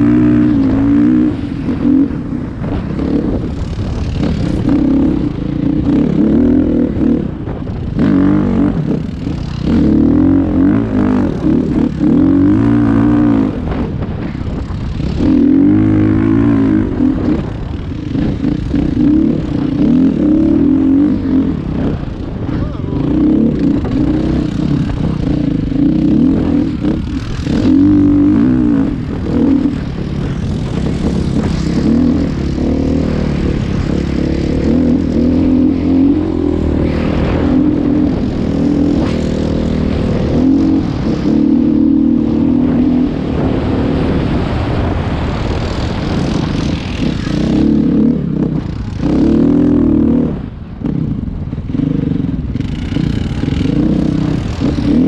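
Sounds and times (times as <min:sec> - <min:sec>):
engine running: 0:00.0 - 0:55.0
rushing noise: 0:00.0 - 0:55.0.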